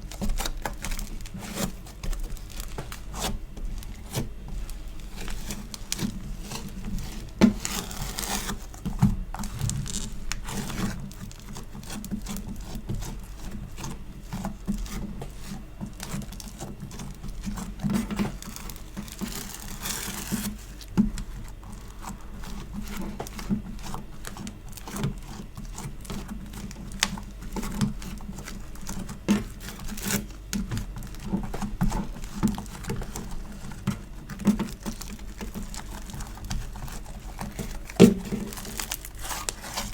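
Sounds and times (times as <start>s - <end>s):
sticky slime squishing: 0.0s - 39.9s.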